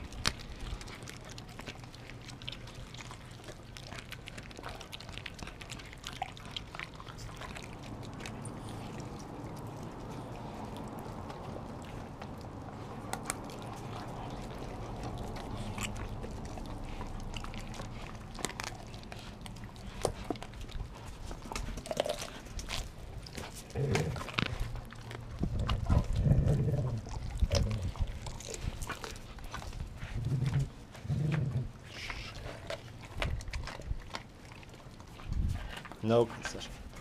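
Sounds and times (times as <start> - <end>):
dogs chewing and tearing raw chicken: 0.0 - 37.0.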